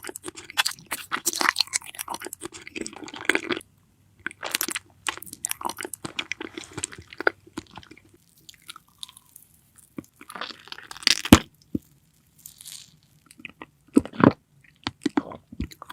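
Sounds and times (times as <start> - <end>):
crunching chews: 0.0 - 3.6, 4.2 - 15.9.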